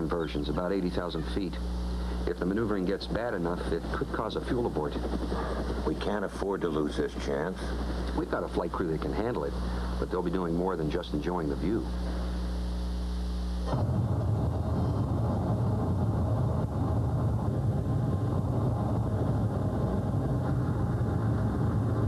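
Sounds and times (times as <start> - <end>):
jet aircraft rumble: 0.0 - 22.0
steady low hum: 0.0 - 22.0.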